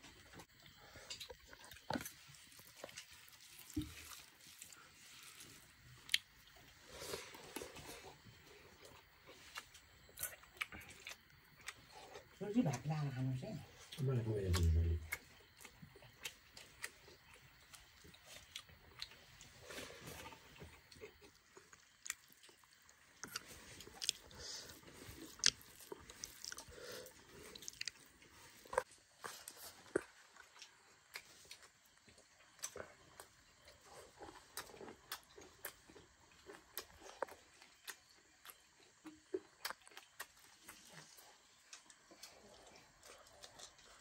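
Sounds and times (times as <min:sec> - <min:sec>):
person chewing food: 0:00.1 - 0:12.4, 0:13.7 - 0:44.0.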